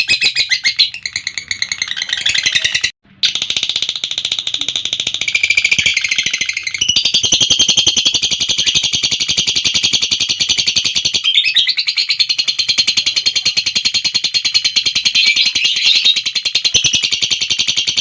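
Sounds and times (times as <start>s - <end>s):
lovebird chattering trill: 0.0s - 18.0s.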